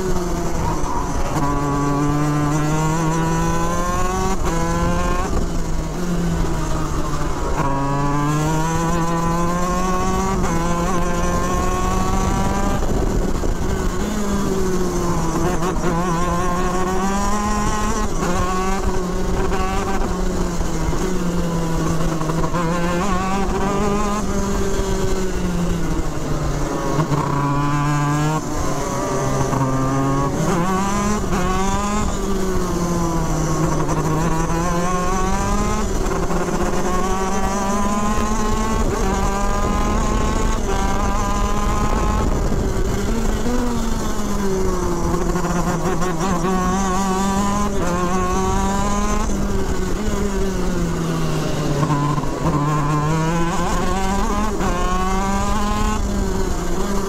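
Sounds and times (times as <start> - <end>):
kart engine accelerating: 0.0 - 57.0.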